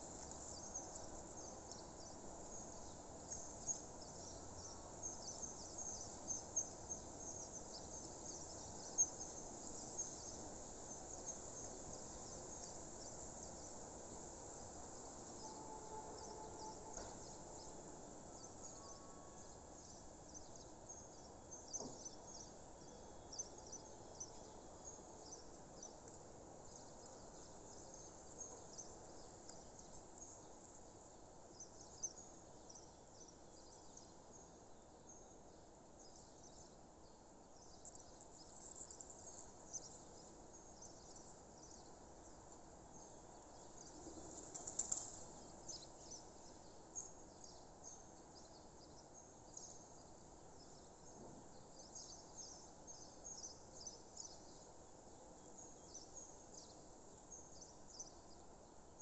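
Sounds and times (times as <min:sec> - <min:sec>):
low steady background hiss: 0:00.0 - 0:59.0.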